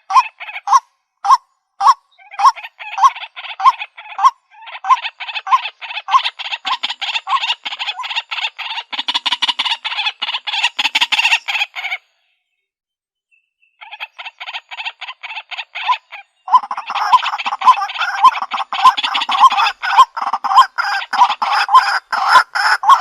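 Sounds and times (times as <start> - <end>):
bird harsh repeated calls: 0.0 - 12.2, 13.7 - 23.0.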